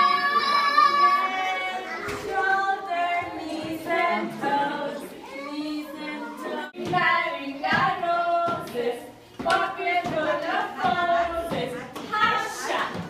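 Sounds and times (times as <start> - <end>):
young children singing: 0.0 - 13.0
woman singing: 1.3 - 13.0.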